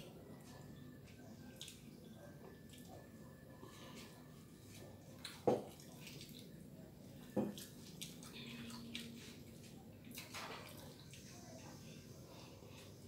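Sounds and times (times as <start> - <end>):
chewing: 0.0 - 11.4.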